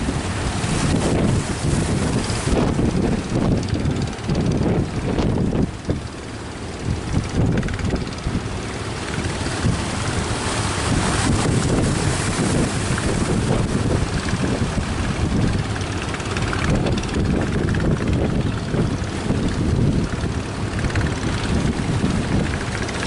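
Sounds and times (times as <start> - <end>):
surf: 0.0 - 23.0
wind buffeting microphone: 0.0 - 23.0.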